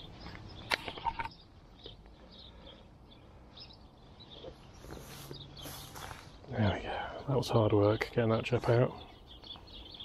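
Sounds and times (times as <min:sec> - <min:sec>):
low outdoor hum: 0:00.0 - 0:10.0
small birds chirping: 0:00.0 - 0:10.0.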